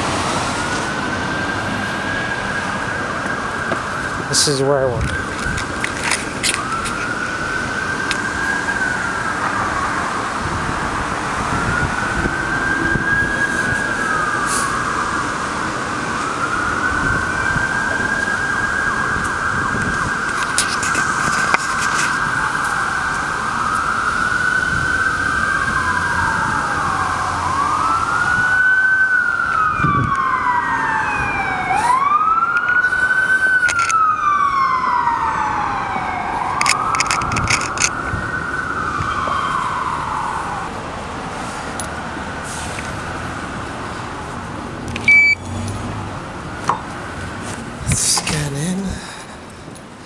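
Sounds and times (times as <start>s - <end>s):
siren wailing: 0.0s - 45.5s.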